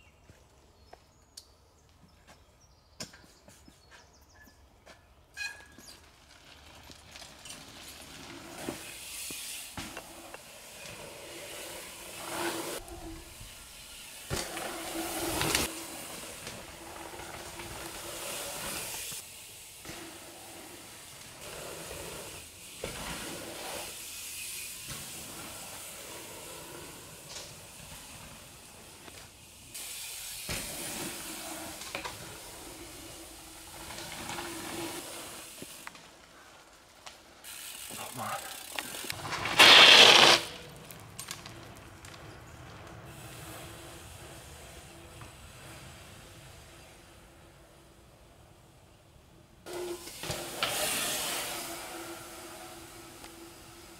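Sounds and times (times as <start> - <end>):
bike tyres on dirt: 0.0 - 53.9.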